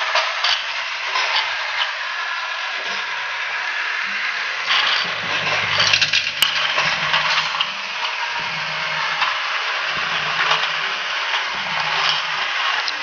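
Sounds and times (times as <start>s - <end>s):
toy train motor whirring: 0.0s - 13.0s.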